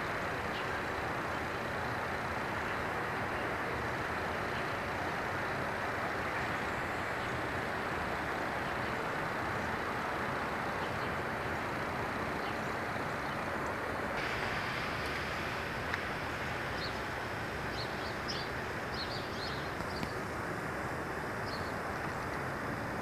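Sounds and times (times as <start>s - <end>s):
outdoor hiss and rumble: 0.0s - 23.0s.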